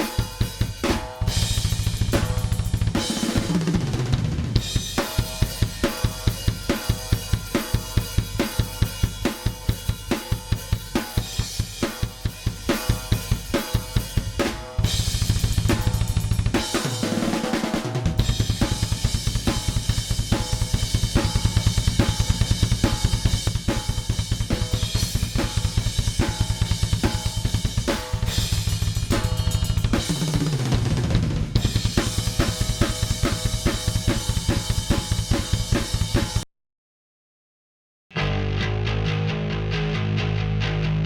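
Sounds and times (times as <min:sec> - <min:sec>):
band music with drum kit: 0:00.0 - 0:36.4.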